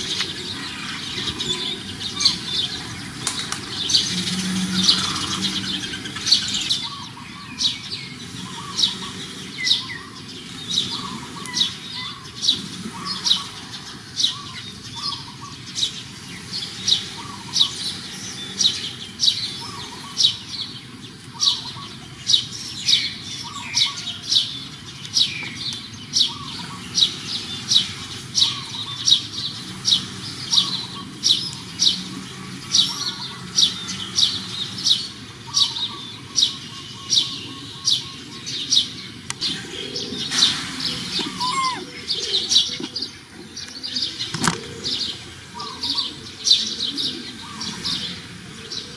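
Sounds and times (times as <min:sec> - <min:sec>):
rustle: 0:00.0 - 0:36.6, 0:37.3 - 0:48.9
bird chirping: 0:00.0 - 0:48.9.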